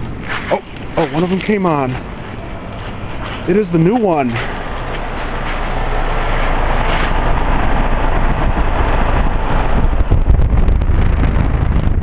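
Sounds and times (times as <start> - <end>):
heat pump compressor and fan humming: 0.0 - 11.8.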